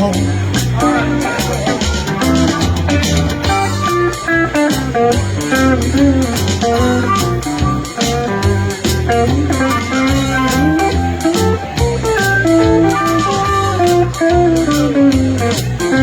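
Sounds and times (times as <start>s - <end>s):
bass guitar: 0.0s - 16.0s
drums: 0.0s - 16.0s
electric guitar lead lines: 0.0s - 16.0s.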